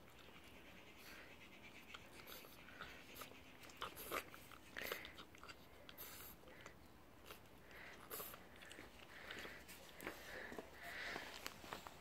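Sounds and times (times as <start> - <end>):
puppy chewing treats: 1.8 - 11.9.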